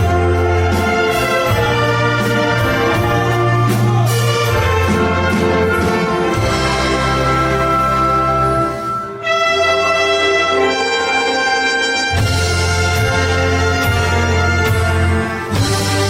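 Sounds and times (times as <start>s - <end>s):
brass melody: 0.0s - 16.0s
wind orchestra playing: 0.0s - 16.0s.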